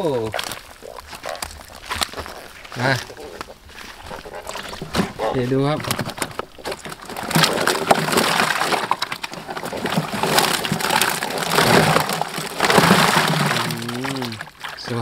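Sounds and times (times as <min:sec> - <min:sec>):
fish thrashing and splashing: 0:00.0 - 0:15.0.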